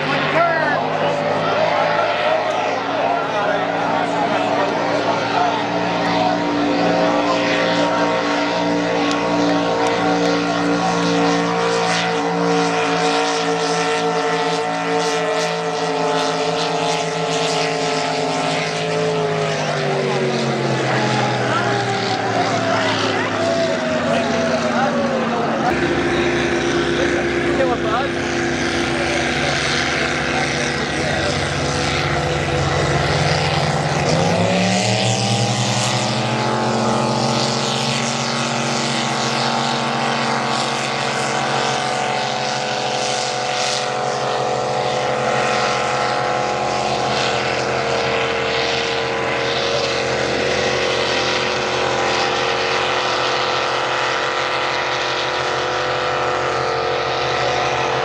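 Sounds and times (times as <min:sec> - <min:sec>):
racing boat engines revving: 0:00.0 - 0:58.0.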